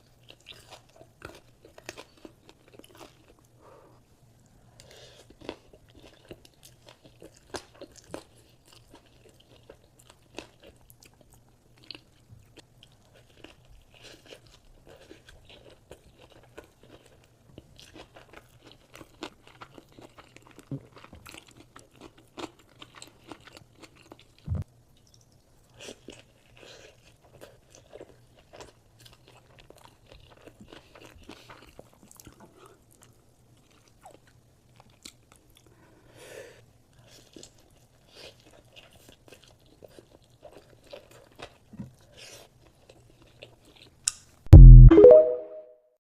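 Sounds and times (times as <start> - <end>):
person chewing food: 0.0 - 3.6, 4.8 - 35.7, 36.9 - 44.7.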